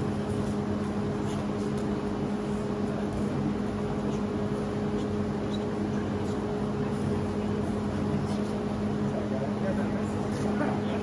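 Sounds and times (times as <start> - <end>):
low machine drone: 0.0 - 11.0
rushing machine noise: 0.0 - 11.0.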